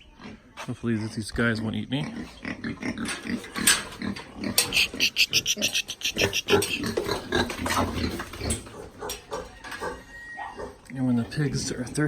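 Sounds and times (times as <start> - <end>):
pigs grunting and oinking: 1.8 - 12.0.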